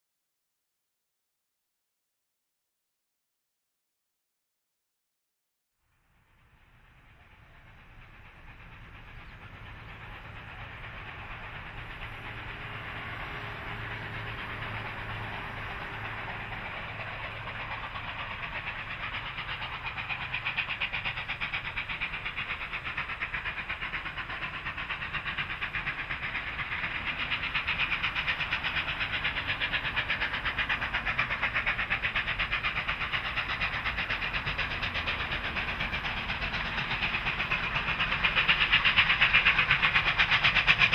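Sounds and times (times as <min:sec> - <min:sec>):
steam locomotive exhaust beats: 0:05.8 - 0:40.9
rail noise: 0:05.9 - 0:40.9.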